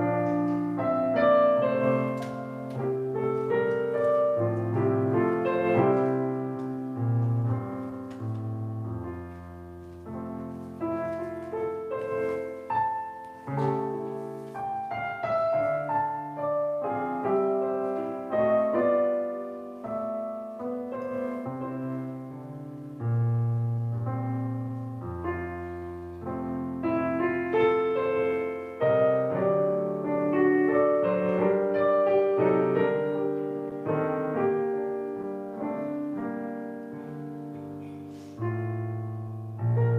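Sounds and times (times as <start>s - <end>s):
solo piano piece: 0.0s - 39.9s.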